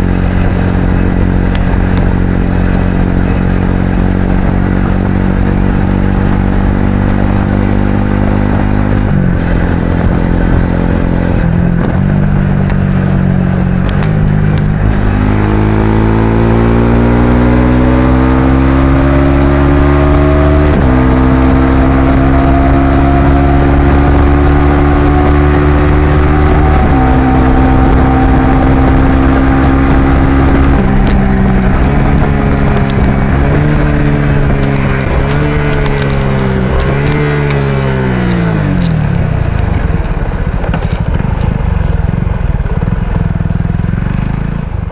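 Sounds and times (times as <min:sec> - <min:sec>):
motorcycle engine revving through gears: 0:00.0 - 0:44.9.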